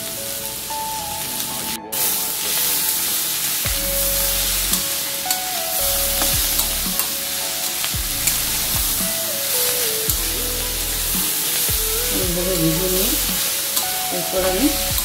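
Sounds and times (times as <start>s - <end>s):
vegetables sizzling in a wok: 1.4s - 15.0s.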